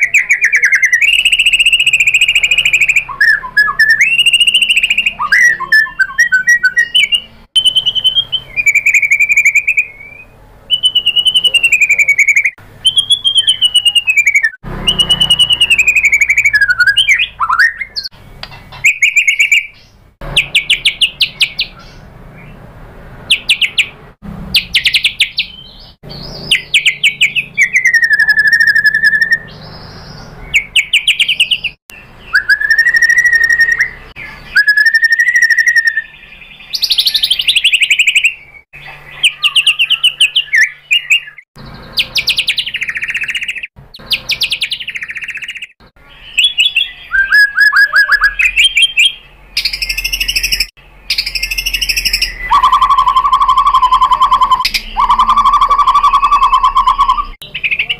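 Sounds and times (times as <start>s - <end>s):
songbird singing trills and whistles: 0.0s - 22.6s, 23.2s - 57.9s.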